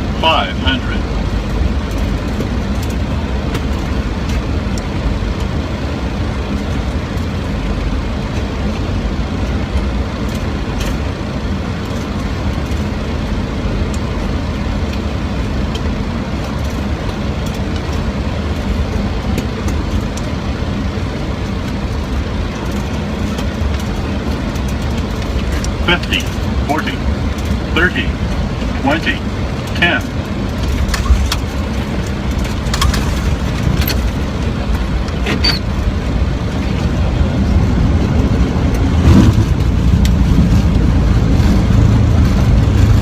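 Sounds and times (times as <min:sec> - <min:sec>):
airflow and jet engines roaring: 0:00.0 - 0:43.0.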